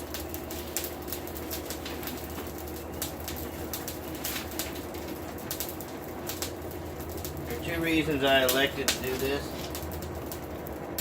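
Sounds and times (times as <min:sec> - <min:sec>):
charcoal fire crackling: 0:00.0 - 0:11.0
steady low hum: 0:00.0 - 0:11.0.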